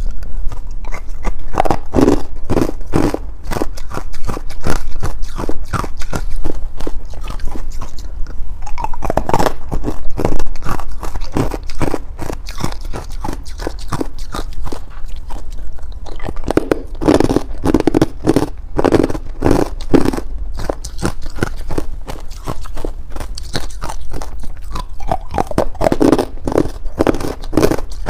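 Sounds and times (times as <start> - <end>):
person crunching ice: 0.0 - 8.0, 8.8 - 28.0.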